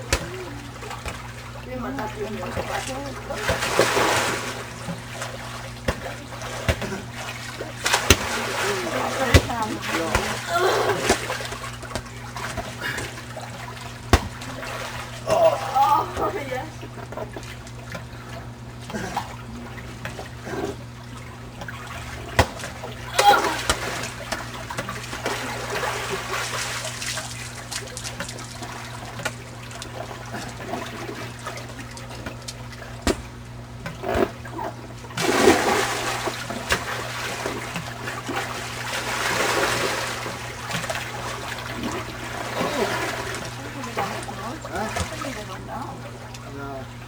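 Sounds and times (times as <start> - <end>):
pool water sloshing and trickling: 0.0 - 47.0
water splashes: 0.0 - 47.0.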